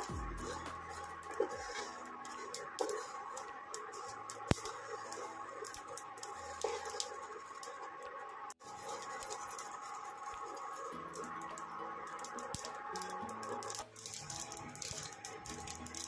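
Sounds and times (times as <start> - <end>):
seeds rattling in a pan: 0.0 - 7.8, 8.5 - 16.0.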